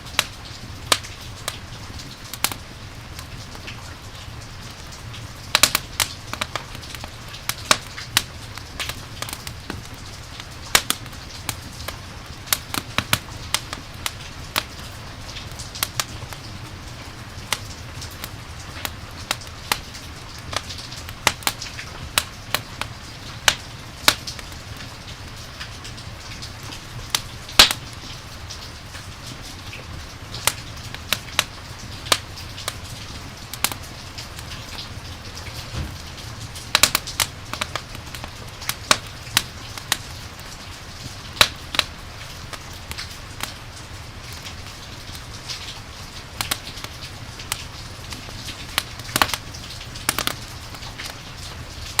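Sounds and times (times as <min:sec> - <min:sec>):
campfire crackling and popping: 0:00.0 - 0:52.0
falling rain hiss: 0:00.0 - 0:52.0.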